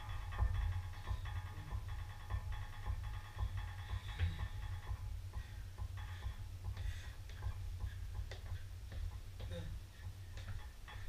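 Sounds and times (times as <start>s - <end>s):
trainers thudding on wooden floor: 0.3s - 11.0s.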